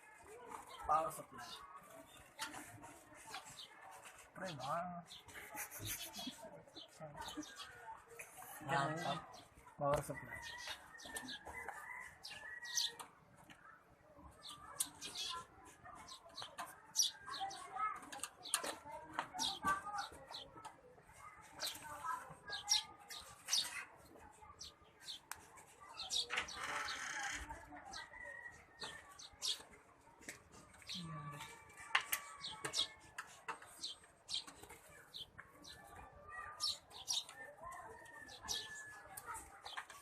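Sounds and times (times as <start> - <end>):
birds chirping: 0.2 - 40.0.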